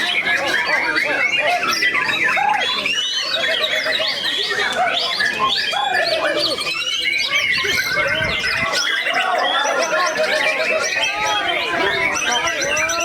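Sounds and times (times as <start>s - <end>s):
songbirds singing in chorus: 0.0s - 13.0s.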